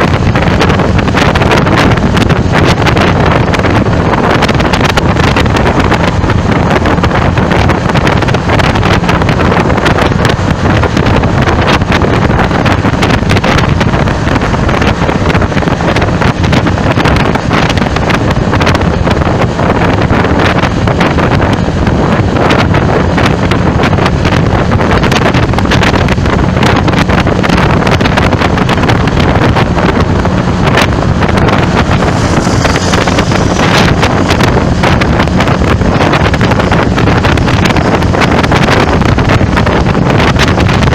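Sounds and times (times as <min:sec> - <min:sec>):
road traffic rumble: 0:00.0 - 0:40.9
wind buffeting microphone: 0:00.0 - 0:40.9.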